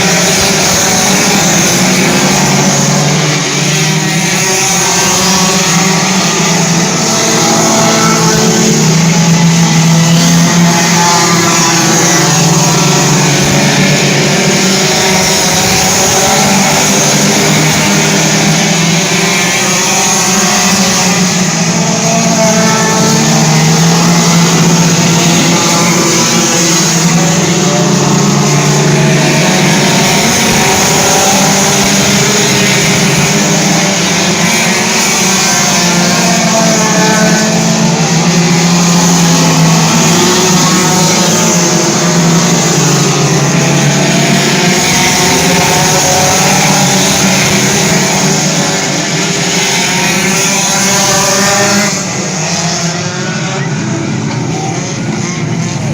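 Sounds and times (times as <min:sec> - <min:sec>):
race car engines: 0:00.0 - 0:55.9.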